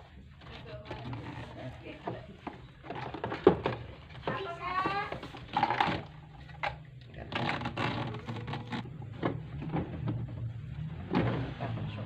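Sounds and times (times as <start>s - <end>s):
plastic base knocking and scraping: 0.5s - 11.6s.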